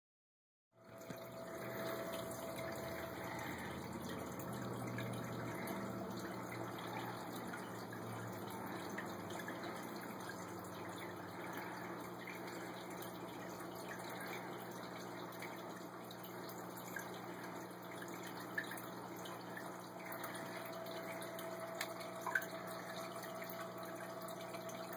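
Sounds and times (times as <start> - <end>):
aquarium water bubbling: 0.8 - 24.9
steady low hum: 0.8 - 24.9.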